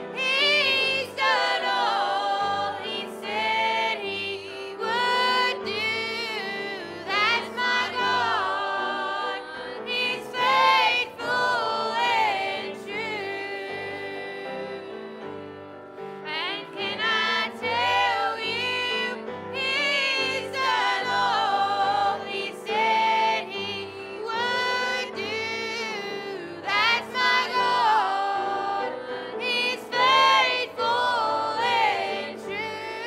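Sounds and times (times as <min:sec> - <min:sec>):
group singing gospel song: 0:00.0 - 0:33.0.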